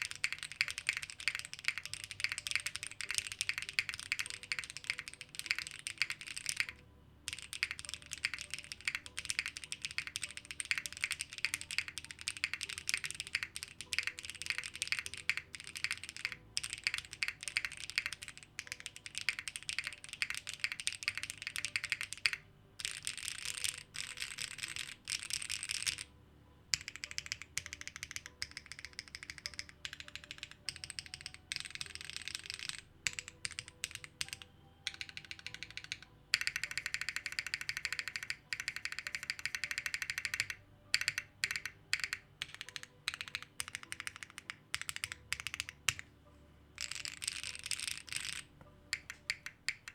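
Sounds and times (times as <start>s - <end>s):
rapid mechanical keyboard typing: 0.0s - 26.1s, 26.8s - 46.0s, 46.8s - 49.9s.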